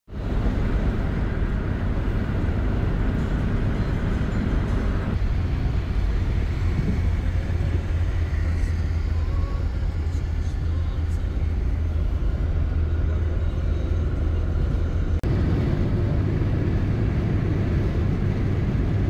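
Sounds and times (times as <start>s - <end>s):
road and engine rumble in car: 0.1s - 19.0s
rushing noise: 0.1s - 19.0s.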